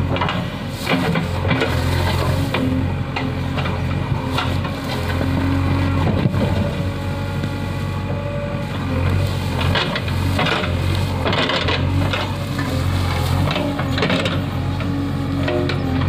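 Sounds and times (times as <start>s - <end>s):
diesel engine running: 0.0s - 16.0s
bucket scraping through soil: 0.1s - 14.6s.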